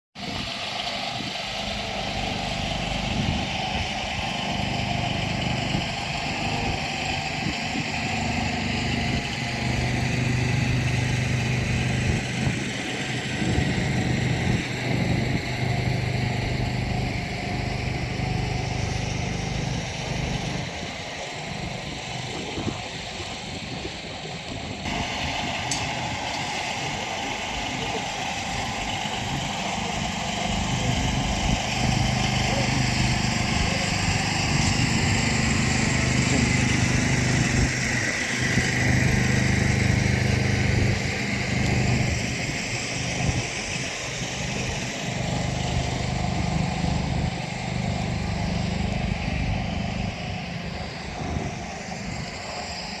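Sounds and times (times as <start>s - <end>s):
machinery engine running: 0.2s - 53.0s.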